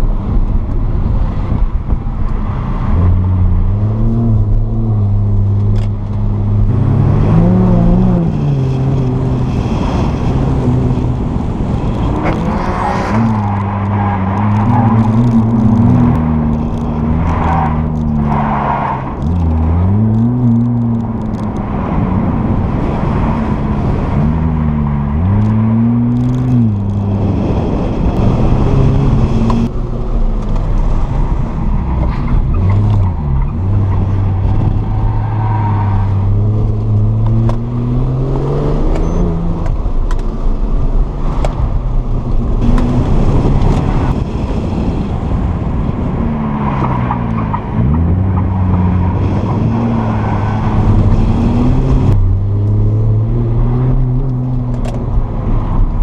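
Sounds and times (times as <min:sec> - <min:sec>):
car engine revving: 0:01.7 - 0:56.0.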